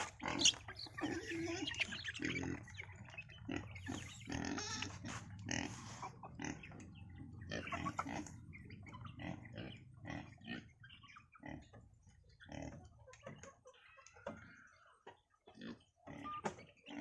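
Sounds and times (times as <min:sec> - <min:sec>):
animals feeding: 0:00.0 - 0:17.0
farm animals calling: 0:00.0 - 0:17.0.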